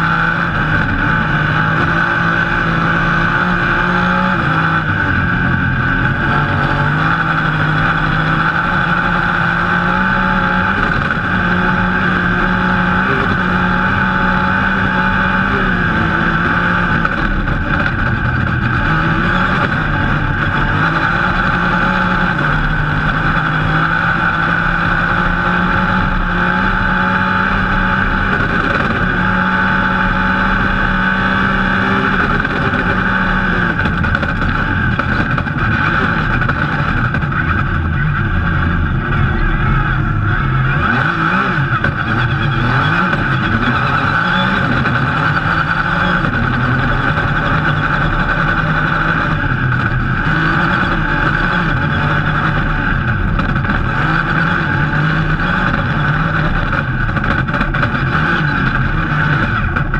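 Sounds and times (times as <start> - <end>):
rally car engine revving: 0.0 - 59.9
road noise on dirt: 0.0 - 59.9.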